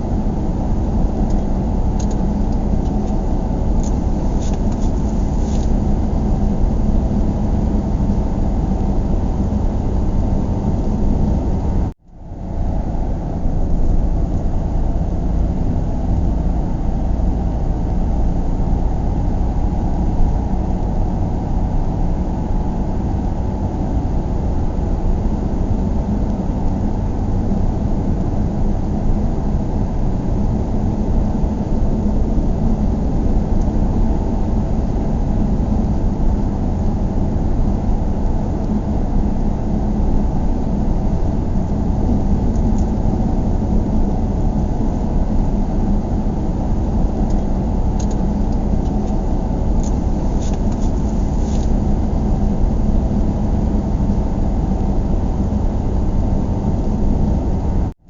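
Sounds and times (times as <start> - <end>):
car driving rumble: 0.0 - 58.0
road and engine noise in cabin: 0.0 - 58.0.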